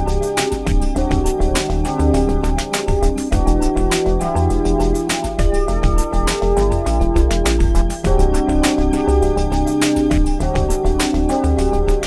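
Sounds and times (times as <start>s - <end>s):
electronic music with synth chords: 0.0s - 12.0s.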